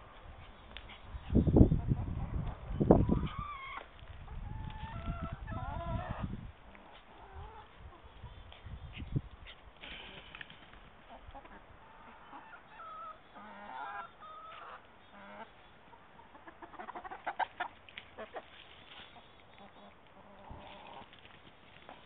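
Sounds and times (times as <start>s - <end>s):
chickens clucking: 0.2s - 22.0s.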